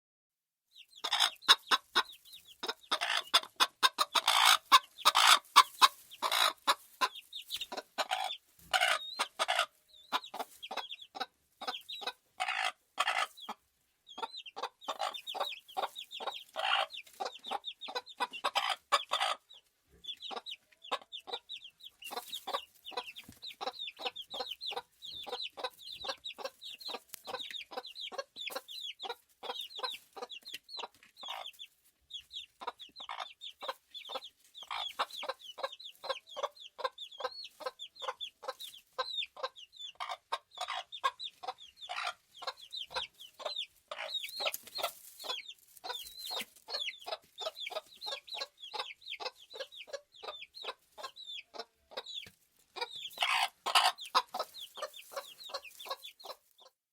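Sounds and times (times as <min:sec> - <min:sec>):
chickens clucking: 0:00.7 - 0:56.8.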